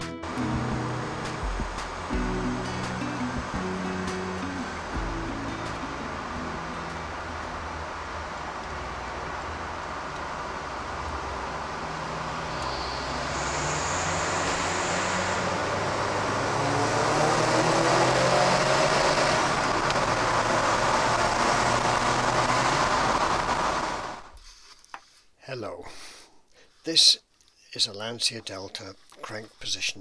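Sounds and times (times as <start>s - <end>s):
car engine accelerating: 0.0s - 24.3s
road noise inside car: 0.2s - 24.3s.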